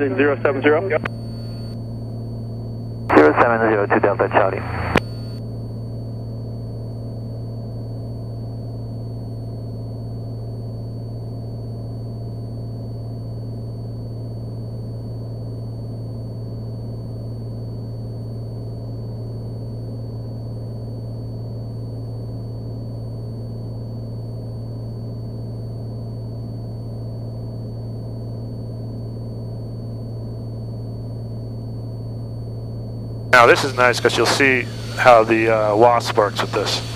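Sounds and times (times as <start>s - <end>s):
airplane engine in cabin: 0.0s - 36.9s.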